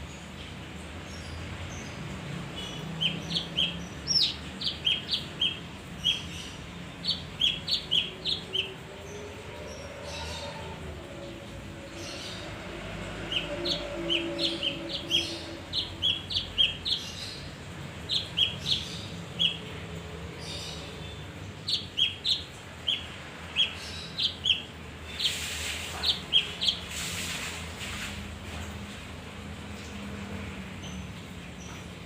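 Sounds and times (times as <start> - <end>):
songbird chirping: 0.0 - 28.2.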